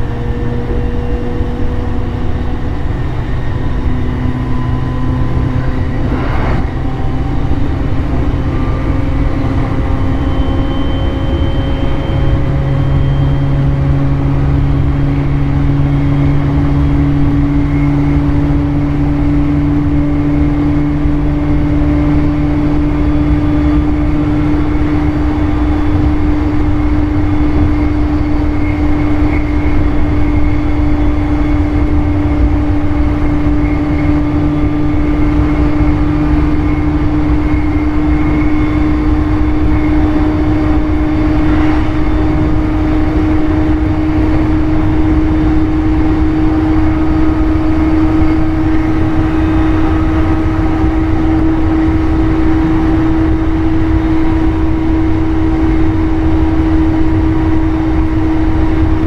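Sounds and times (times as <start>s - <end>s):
electric train motor whine: 0.0s - 59.0s
wheels rumbling on rails: 0.0s - 59.0s.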